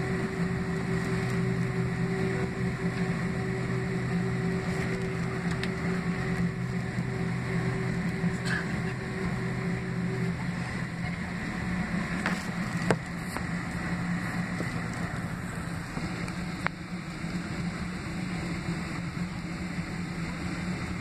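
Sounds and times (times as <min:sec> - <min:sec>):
jet engines hum at taxi: 0:00.0 - 0:21.0.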